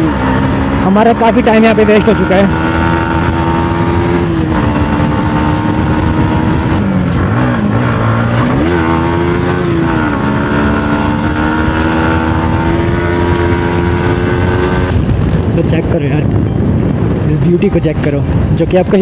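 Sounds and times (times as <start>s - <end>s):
low wind rumble: 0.0s - 19.0s
motorcycle engine running: 0.0s - 19.0s.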